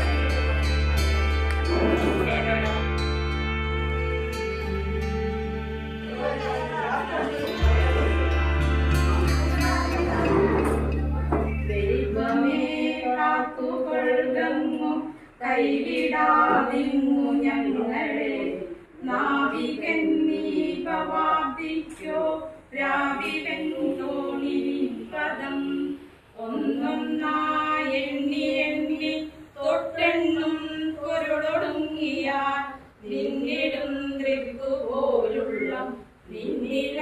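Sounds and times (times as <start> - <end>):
group singing unaccompanied: 5.8 - 37.0.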